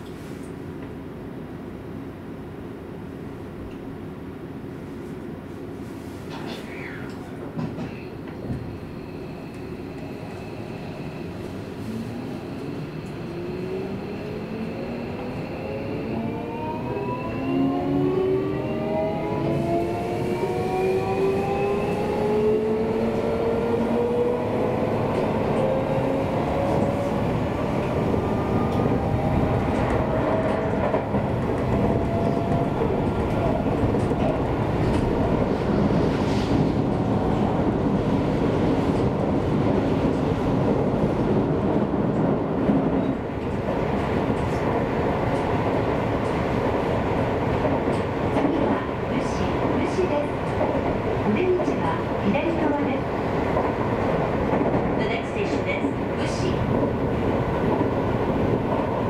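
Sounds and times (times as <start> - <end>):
train wheels on rail: 5.0 - 59.0.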